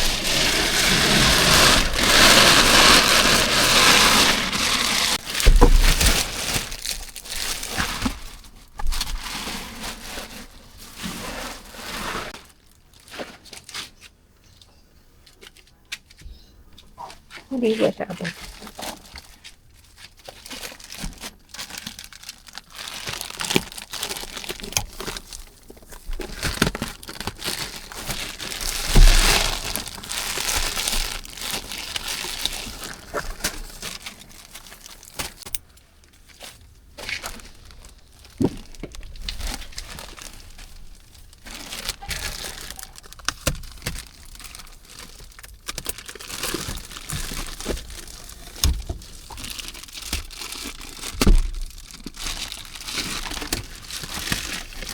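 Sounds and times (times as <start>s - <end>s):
plastic wrapping crinkling and tearing: 0.0s - 14.2s, 17.4s - 54.9s.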